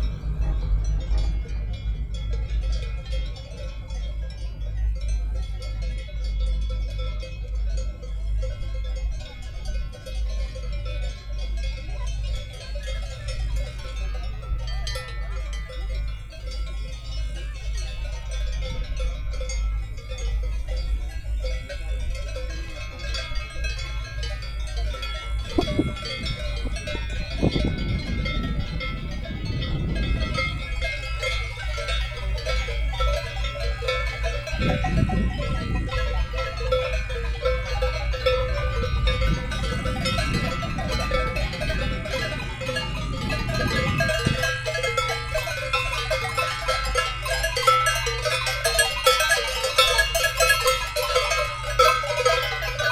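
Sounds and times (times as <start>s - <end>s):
steady low rumble: 0.0s - 9.9s, 11.1s - 52.8s
cowbells clanking and ringing: 0.0s - 52.9s.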